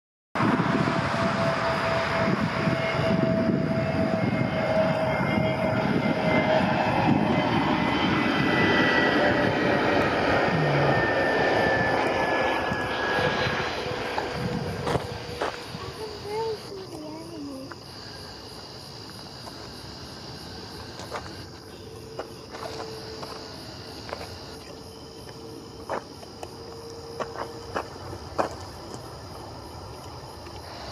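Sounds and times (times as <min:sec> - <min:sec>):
airplane passing overhead: 0:00.4 - 0:30.9
high jet engine whine: 0:00.4 - 0:30.9
crickets chirping: 0:00.8 - 0:30.9.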